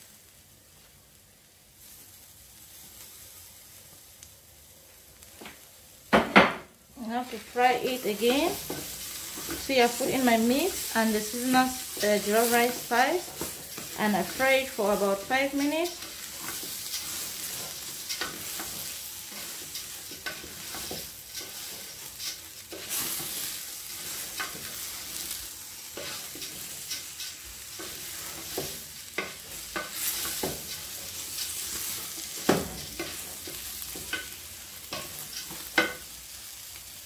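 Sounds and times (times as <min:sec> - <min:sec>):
rice and meat sizzling: 0:00.0 - 0:37.0.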